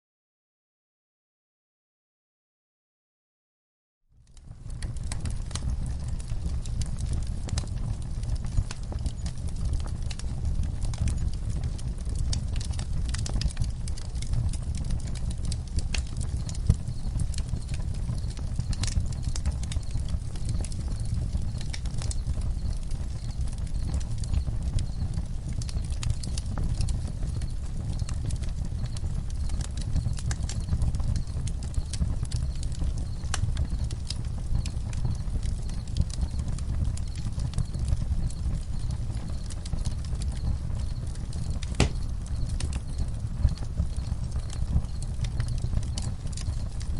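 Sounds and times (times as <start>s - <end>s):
fire low rumble: 4.2s - 46.9s
wood crackling and popping: 4.2s - 46.9s.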